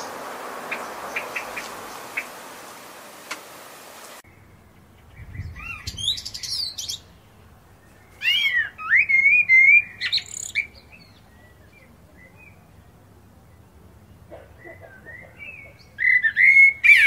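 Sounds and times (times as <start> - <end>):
blackbird singing: 0.0 - 2.7, 4.3 - 12.9, 14.3 - 17.0.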